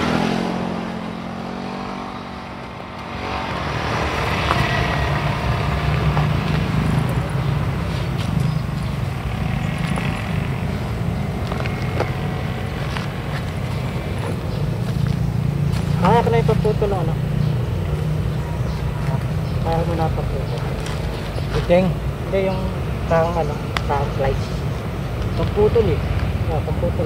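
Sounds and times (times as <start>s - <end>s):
motorcycle engine humming: 0.0s - 27.0s.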